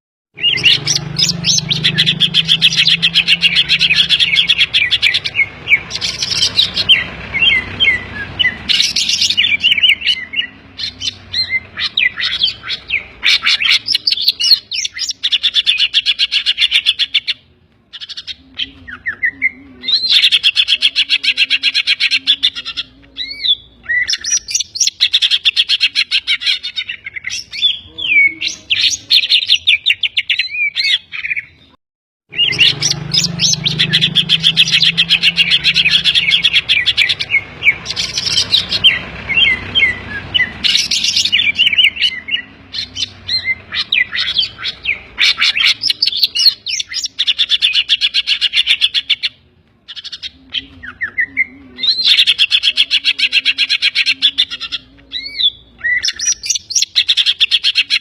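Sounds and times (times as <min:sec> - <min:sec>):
bird singing trills and whistles: 0:00.4 - 0:58.0.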